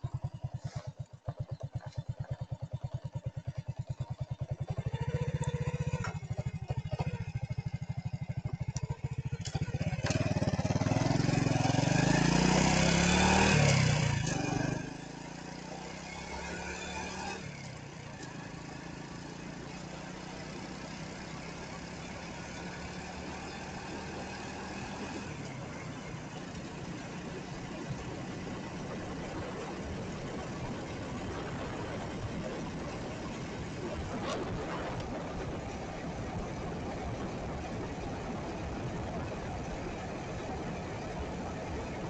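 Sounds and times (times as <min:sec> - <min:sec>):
vehicle engine revving: 0:00.0 - 0:42.0.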